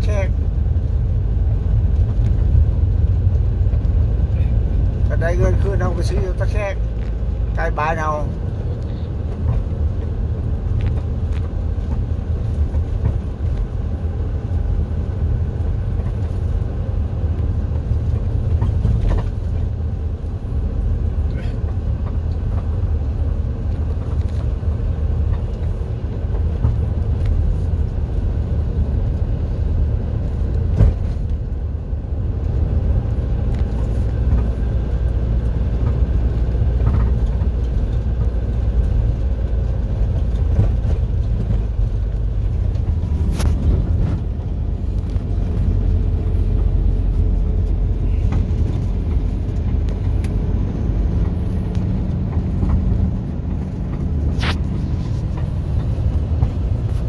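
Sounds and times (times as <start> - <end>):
road vehicle rumble: 0.0 - 57.0.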